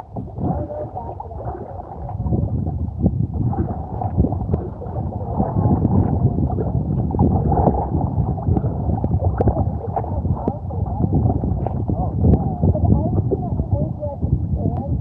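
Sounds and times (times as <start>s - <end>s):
water sloshing around kayak: 0.0s - 14.9s.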